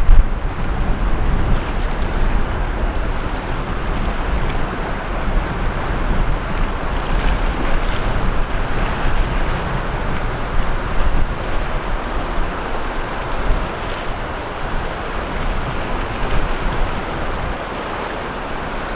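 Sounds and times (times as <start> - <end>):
sea waves washing onto beach: 0.0 - 18.9
wind buffeting microphone: 0.0 - 18.9.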